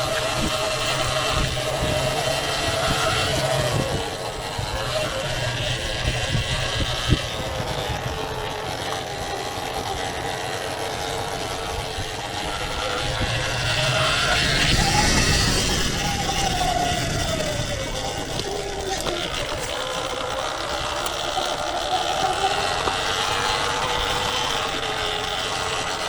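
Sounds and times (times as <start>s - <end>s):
chassis and tyres rattling: 0.0s - 26.0s
electric motor whine: 0.0s - 26.0s.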